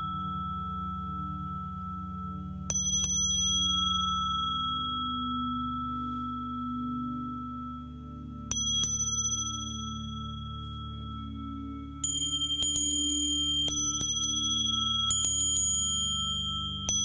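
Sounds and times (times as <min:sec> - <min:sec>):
high ringing tone: 0:00.0 - 0:17.0
singing bowls humming: 0:00.0 - 0:17.0.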